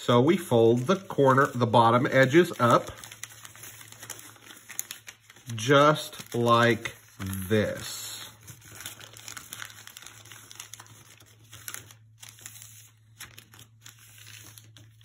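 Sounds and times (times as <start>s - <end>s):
newspaper rustling and crinkling: 0.0s - 15.0s.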